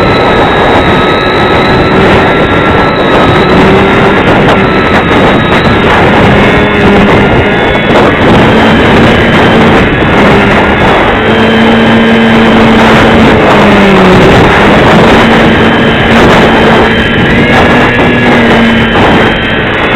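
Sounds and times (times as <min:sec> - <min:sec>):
low droning hum: 0:00.0 - 0:19.9
strong wind on microphone: 0:00.0 - 0:19.9.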